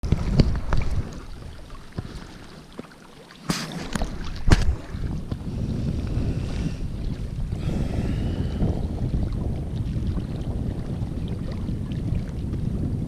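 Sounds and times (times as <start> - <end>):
wind buffeting microphone: 0.0 - 2.5, 3.5 - 13.0.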